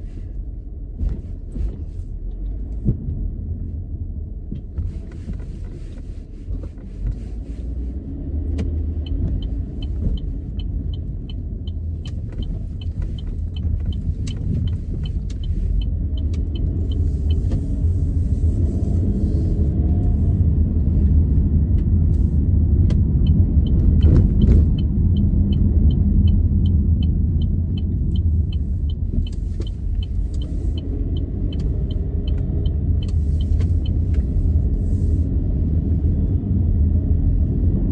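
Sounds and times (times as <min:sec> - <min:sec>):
engine and road noise rumble: 0:00.0 - 0:37.9.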